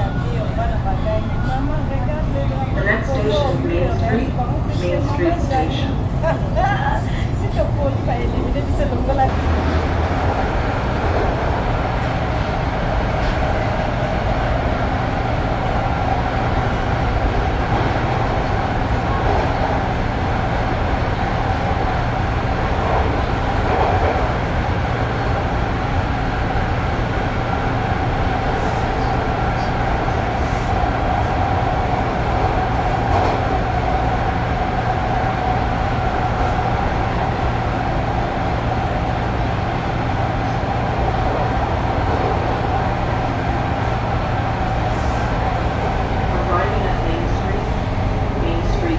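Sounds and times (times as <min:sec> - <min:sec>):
train wheels rumbling on track: 0:00.0 - 0:48.9.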